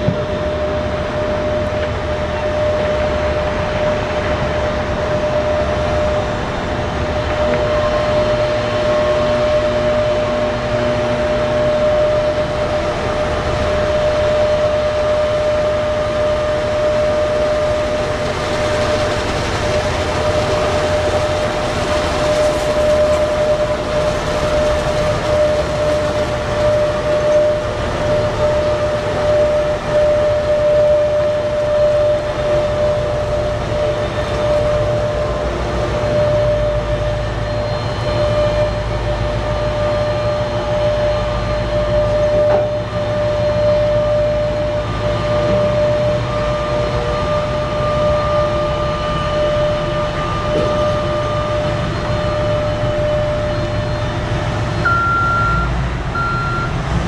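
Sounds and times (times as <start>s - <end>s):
dump truck diesel engine rumble: 0.0s - 57.0s
electric drive whine: 0.0s - 57.0s
reversing alarm beeping: 0.0s - 57.0s.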